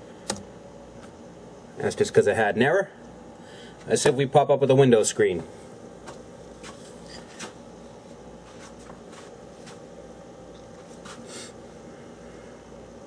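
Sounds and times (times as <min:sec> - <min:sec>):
laptop fan hum: 0:00.0 - 0:13.0.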